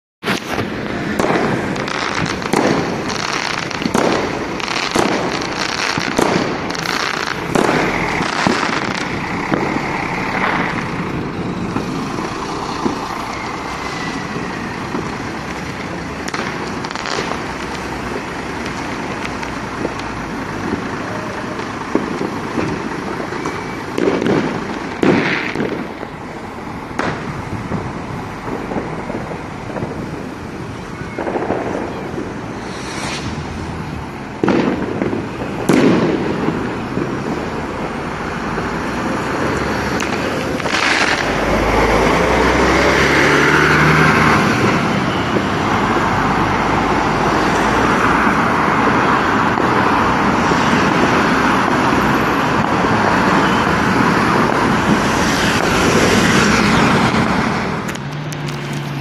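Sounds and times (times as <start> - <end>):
firework bangs: 0.2 - 59.0.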